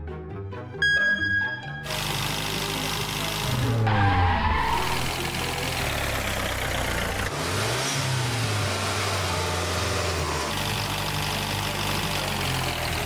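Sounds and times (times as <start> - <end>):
vehicle engine revving: 1.9 - 13.0.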